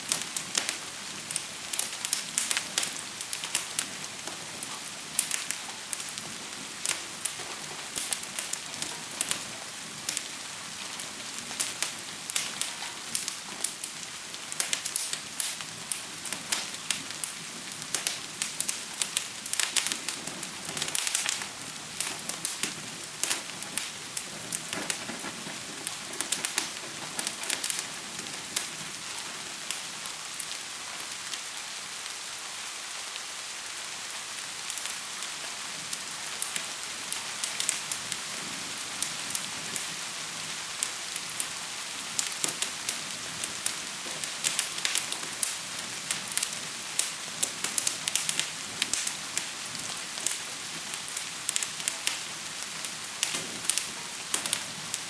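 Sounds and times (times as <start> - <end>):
gentle rain hissing: 0.0 - 55.0
wood fire crackling and popping: 0.0 - 55.0.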